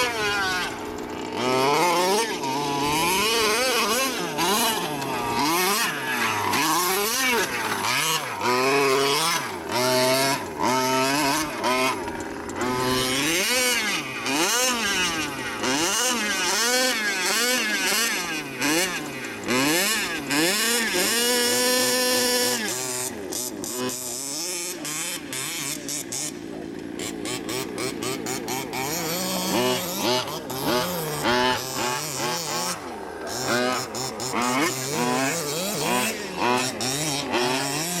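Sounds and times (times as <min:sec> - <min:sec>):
small petrol engine revving: 0:00.0 - 0:38.0.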